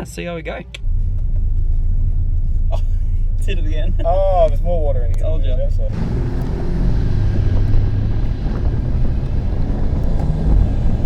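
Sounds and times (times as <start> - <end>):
car engine running at low revs: 0.8 - 11.0.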